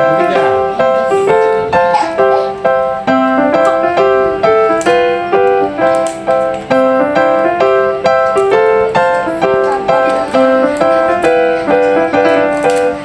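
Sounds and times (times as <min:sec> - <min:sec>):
keyboard melody: 0:00.0 - 0:13.0.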